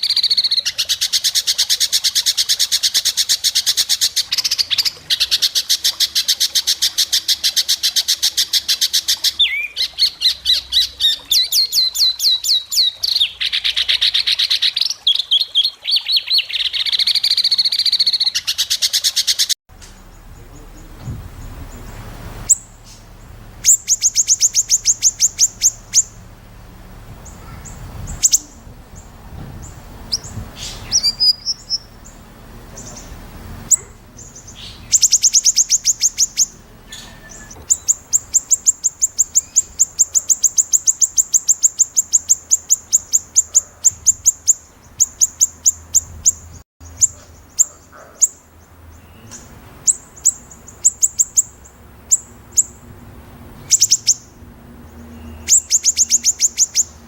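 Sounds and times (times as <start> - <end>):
bird singing rapid high notes: 0.0 - 26.3, 27.2 - 52.8, 53.6 - 54.3, 55.0 - 57.0
quieter bird calls: 0.0 - 52.9, 53.5 - 57.0.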